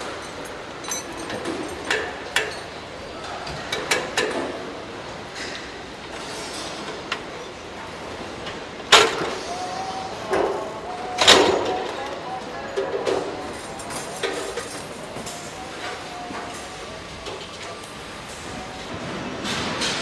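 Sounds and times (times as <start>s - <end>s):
factory assembly-line noise: 0.0s - 20.0s.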